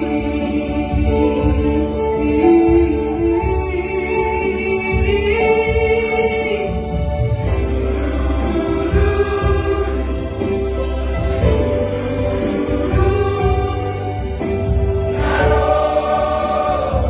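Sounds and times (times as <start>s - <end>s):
bass accompaniment: 0.0s - 17.0s
voices singing a hymn in harmony: 0.0s - 17.0s.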